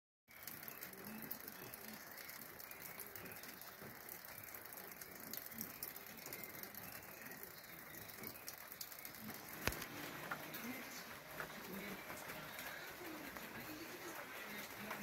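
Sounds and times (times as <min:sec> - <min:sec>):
light rain pattering on foliage: 0:00.3 - 0:15.0.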